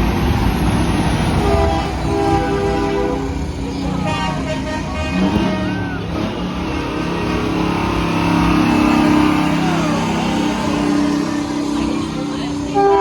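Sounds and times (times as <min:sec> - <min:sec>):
trucks rolling past: 0:00.0 - 0:13.0.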